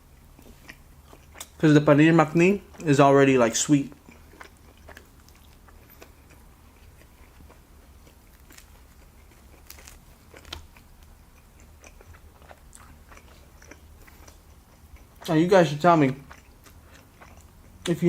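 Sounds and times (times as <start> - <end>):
faint low hum: 0.0 - 18.0
person chewing: 0.1 - 18.0.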